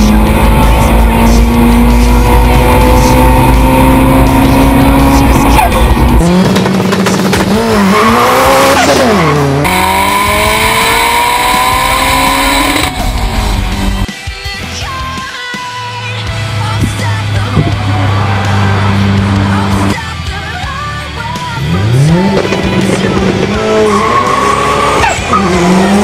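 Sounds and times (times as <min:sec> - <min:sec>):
car engine under full throttle: 0:00.0 - 0:14.1, 0:16.3 - 0:26.0.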